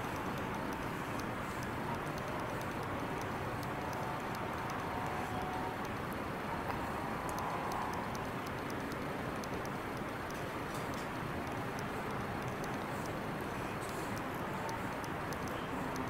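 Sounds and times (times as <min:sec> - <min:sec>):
faint high ticks: 0:00.0 - 0:16.0.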